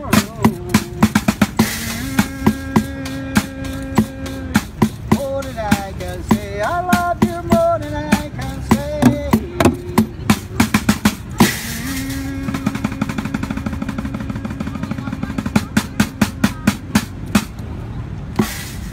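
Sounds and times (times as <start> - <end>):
fast drum roll: 0.0 - 17.6
plastic bucket drum beats: 0.0 - 17.6.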